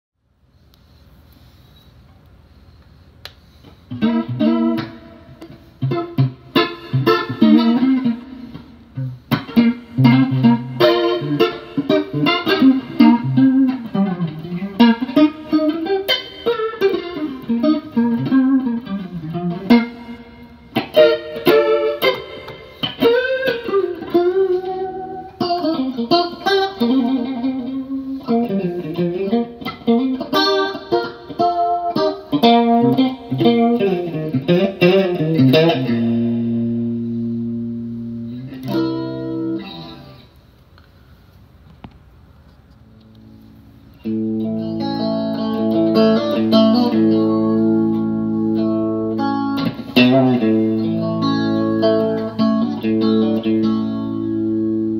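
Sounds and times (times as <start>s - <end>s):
electric guitar with rotary speaker swirl: 3.4s - 54.9s.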